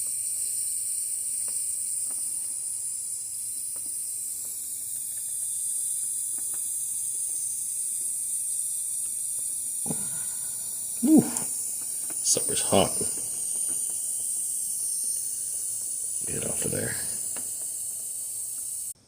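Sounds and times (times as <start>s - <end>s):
high-pitched hiss: 0.0s - 19.0s.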